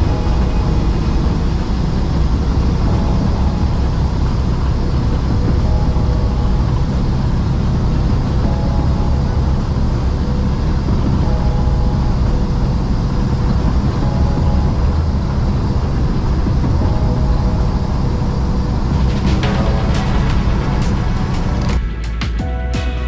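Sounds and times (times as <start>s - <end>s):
road noise: 0.0s - 23.0s
truck engine rumble: 0.0s - 23.0s.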